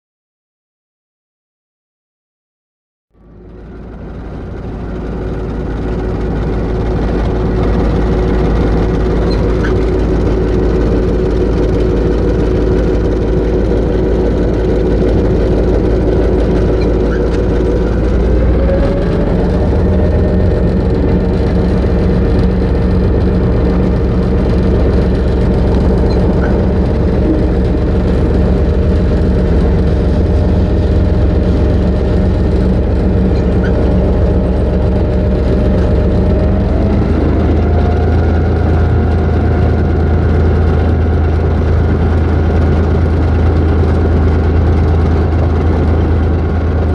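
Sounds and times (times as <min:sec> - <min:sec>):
locomotive diesel engine running: 0:03.1 - 0:46.9.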